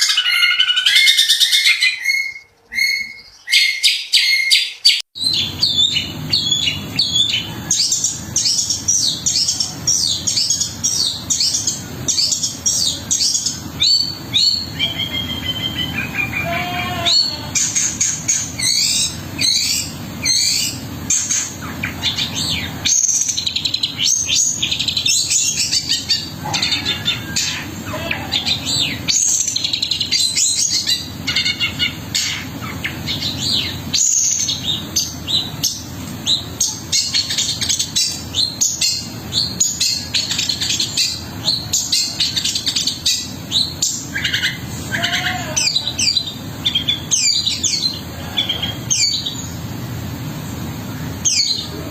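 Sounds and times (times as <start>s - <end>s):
bird singing chirps and trills: 0.0s - 49.8s, 50.5s - 51.9s
steady low hum: 5.2s - 51.9s.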